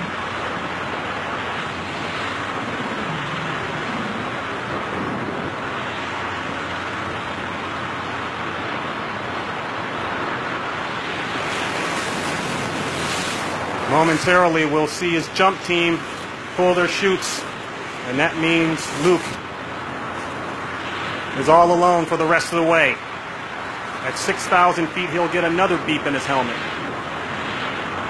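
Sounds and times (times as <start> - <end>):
wind roaring in freefall: 0.0 - 28.0.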